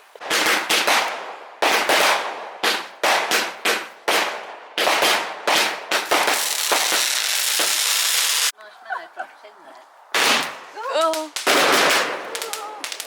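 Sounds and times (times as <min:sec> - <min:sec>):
fireworks bangs: 0:00.0 - 0:08.5, 0:10.1 - 0:13.0.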